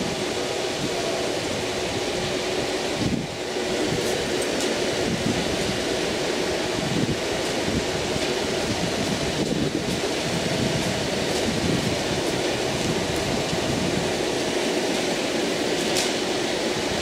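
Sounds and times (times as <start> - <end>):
wind on microphone: 0.0 - 14.7
faint machine hum: 0.0 - 17.0.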